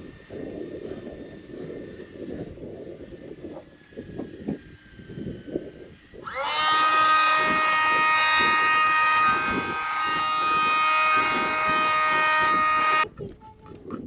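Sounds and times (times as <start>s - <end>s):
power tool high whine: 0.0s - 13.0s.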